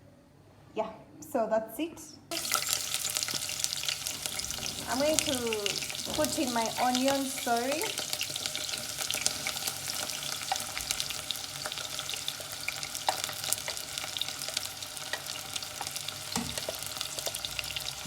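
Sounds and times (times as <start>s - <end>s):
oil popping: 2.3s - 18.0s
onions sizzling in oil: 2.3s - 18.0s.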